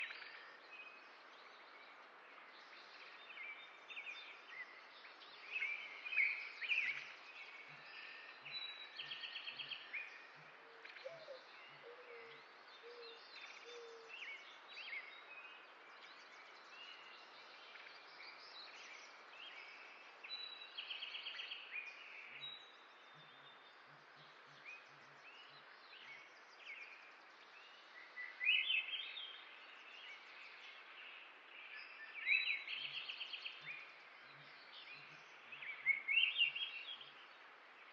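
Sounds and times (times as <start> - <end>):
steady outdoor hiss: 0.0 - 37.9.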